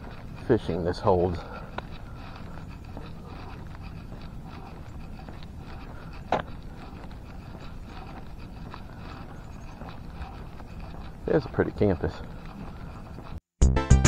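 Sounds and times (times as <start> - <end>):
footsteps on asphalt: 0.0 - 13.5.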